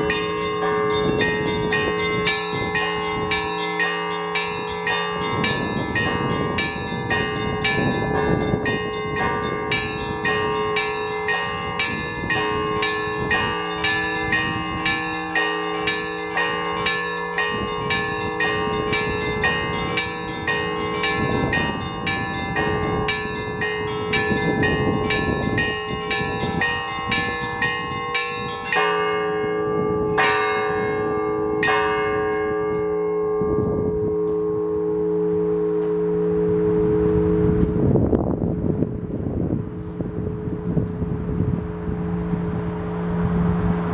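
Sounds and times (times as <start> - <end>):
deep bells ringing: 0.0 - 43.9
wind rumbling on microphone: 0.0 - 43.9.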